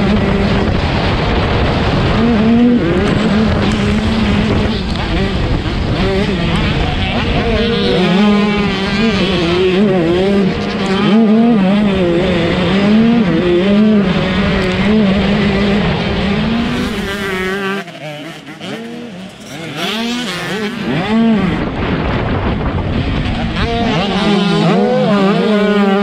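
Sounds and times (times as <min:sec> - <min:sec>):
bikes revving past: 0:00.0 - 0:26.0
motocross bike engine: 0:00.0 - 0:26.0.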